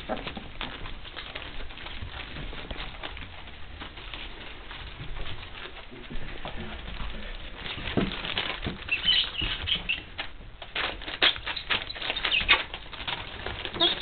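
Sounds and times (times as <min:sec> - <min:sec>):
paper rustling and clicking: 0:00.0 - 0:14.0
puppies' paws pattering on paper: 0:00.0 - 0:14.0.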